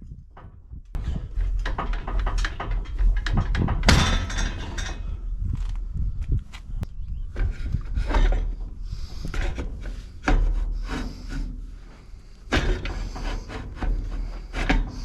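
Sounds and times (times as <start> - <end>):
wind buffeting microphone: 0.0 - 15.0
parts scraping and knocking: 0.4 - 6.7, 7.3 - 15.0.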